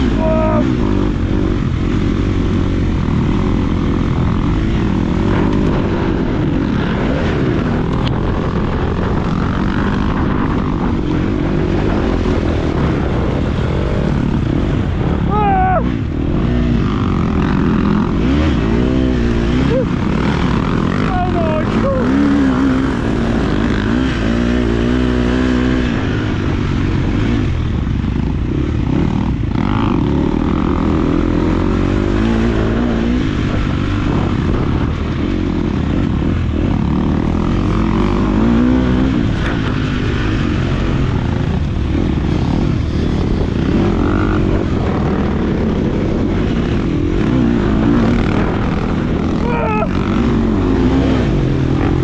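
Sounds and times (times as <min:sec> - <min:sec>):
motocross bike engine revving: 0:00.0 - 0:52.0.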